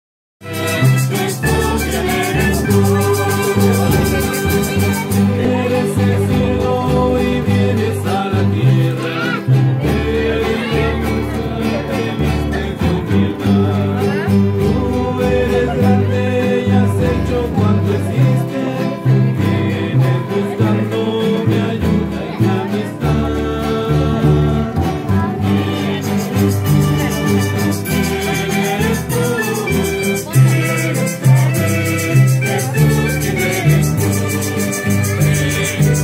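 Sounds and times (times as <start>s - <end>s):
choir singing: 0.4s - 36.0s
plucked bass line: 0.4s - 36.0s
strummed acoustic guitars: 0.4s - 36.0s.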